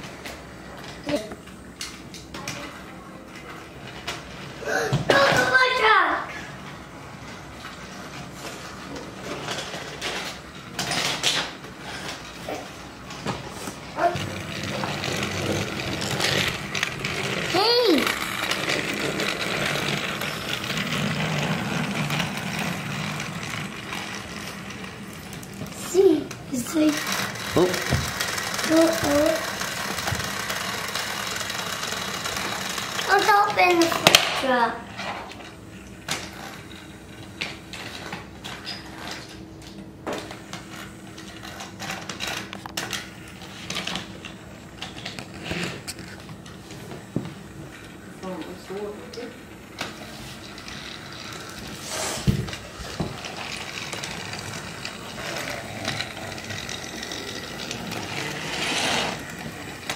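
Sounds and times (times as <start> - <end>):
toy train motor whirring: 7.6 - 39.4, 40.1 - 47.0, 47.7 - 59.9.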